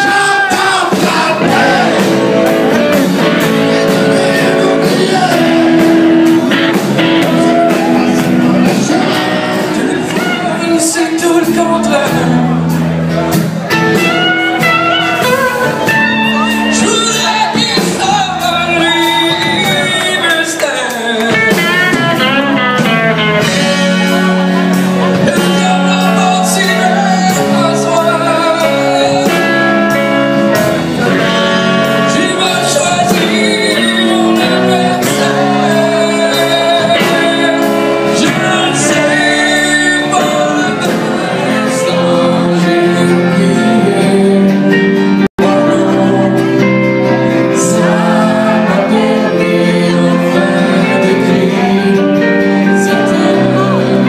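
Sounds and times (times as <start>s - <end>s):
man singing into microphone: 0.0s - 6.6s, 7.2s - 13.3s, 15.2s - 54.0s
live band playing: 0.0s - 54.0s.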